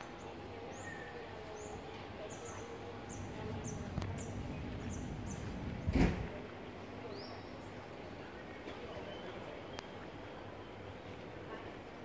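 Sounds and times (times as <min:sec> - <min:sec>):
low outdoor hum: 0:00.0 - 0:12.0.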